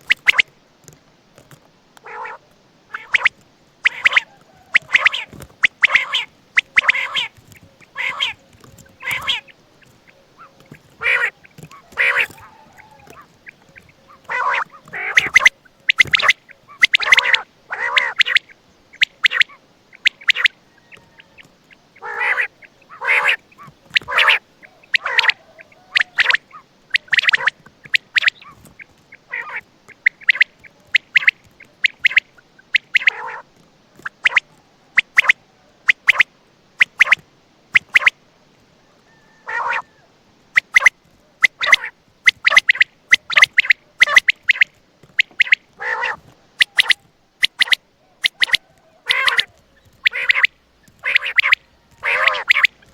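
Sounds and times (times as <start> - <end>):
quail calling: 0.0 - 0.5, 2.0 - 38.2, 38.8 - 52.9.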